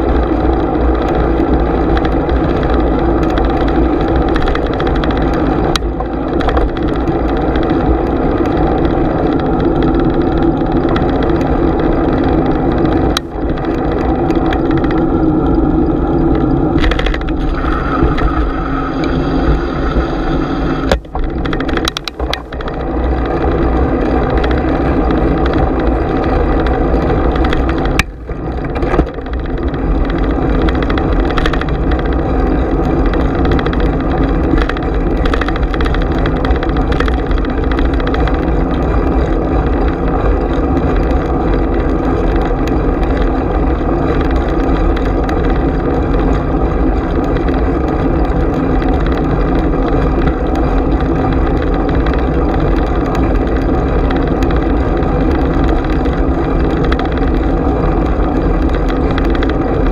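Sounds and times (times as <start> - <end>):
wind and tyre rumble: 0.0 - 59.9.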